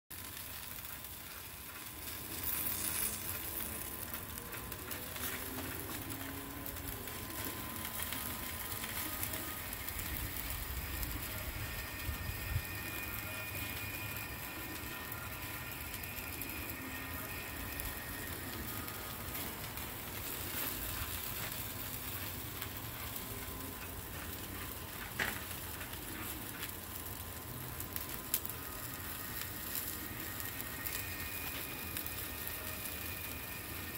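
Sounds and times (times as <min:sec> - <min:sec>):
chicken wings sizzling over charcoal: 0:00.1 - 0:33.9.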